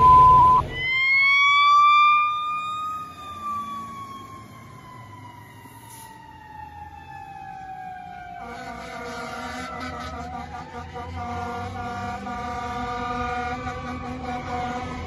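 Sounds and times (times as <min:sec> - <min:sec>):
fire engine siren winding: 0:00.0 - 0:15.0
lower steady siren tone: 0:00.0 - 0:15.0.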